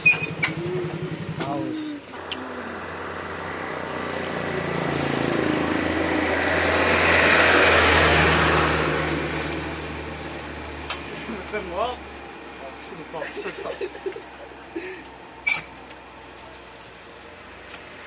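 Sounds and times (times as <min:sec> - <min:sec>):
truck diesel engine pulling uphill: 0:00.0 - 0:17.7.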